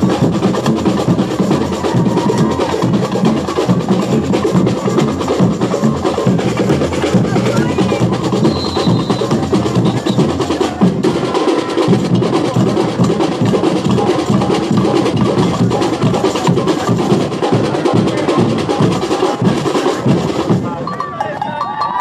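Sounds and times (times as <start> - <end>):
high clacking percussion: 0.0 - 22.0
samba drums playing: 0.0 - 22.0.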